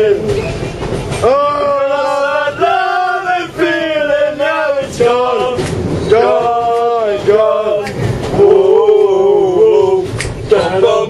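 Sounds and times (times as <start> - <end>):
football supporters chanting: 1.2 - 11.0.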